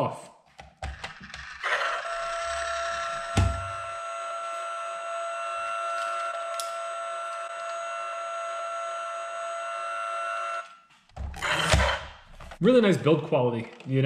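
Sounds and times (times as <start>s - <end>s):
toy truck electronic buzzing tone: 0.9s - 12.2s.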